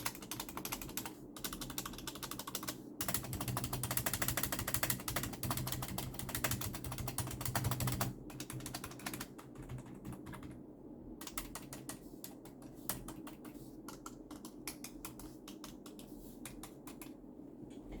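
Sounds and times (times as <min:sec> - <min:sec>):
keyboard typing: 0:00.0 - 0:10.6, 0:11.2 - 0:17.2.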